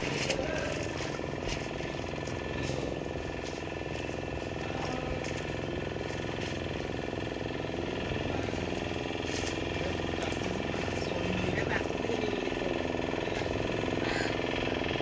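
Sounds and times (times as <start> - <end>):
motorboat engine chugging: 0.0 - 15.0.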